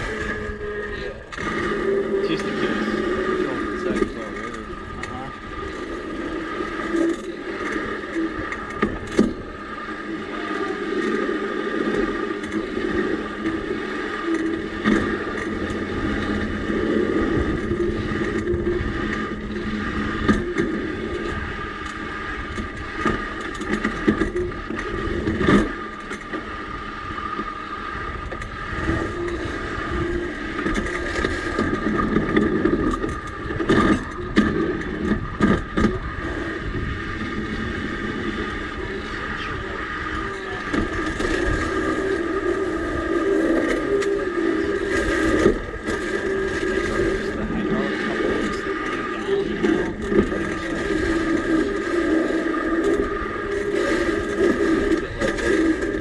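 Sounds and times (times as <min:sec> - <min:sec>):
railbike wheels rumbling on rails: 0:00.0 - 0:56.0.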